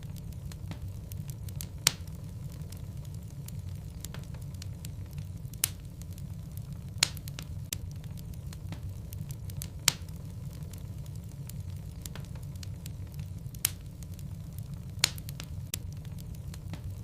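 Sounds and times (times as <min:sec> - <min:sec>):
sharp pops of burning wood: 0:00.0 - 0:17.0
wood fire crackling: 0:00.0 - 0:17.0.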